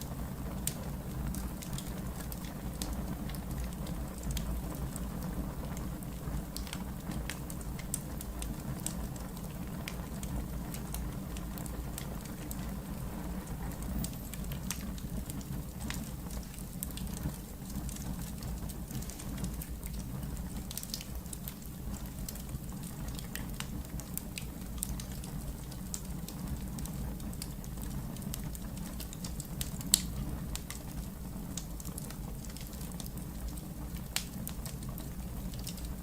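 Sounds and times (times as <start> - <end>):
low rumble of flames: 0.0 - 36.0
wood fire crackling: 0.0 - 36.0.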